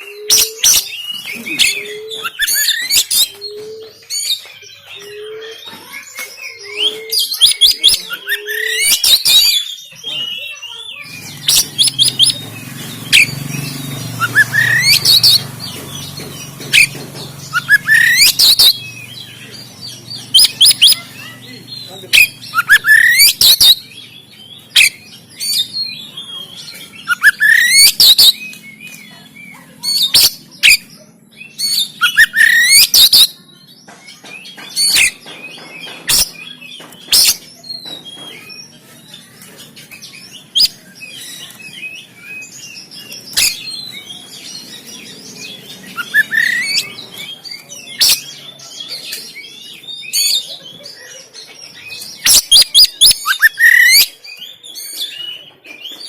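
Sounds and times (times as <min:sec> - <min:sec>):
bird singing harsh rapid notes: 0:00.0 - 0:56.0
quiet bird twittering: 0:00.0 - 0:56.0.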